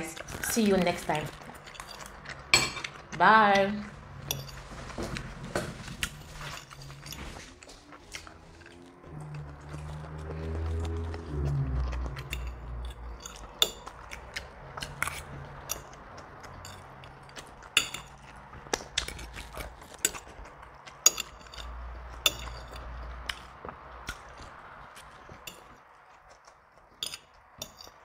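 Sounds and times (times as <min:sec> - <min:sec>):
chewing: 0:00.0 - 0:03.2, 0:03.8 - 0:28.0.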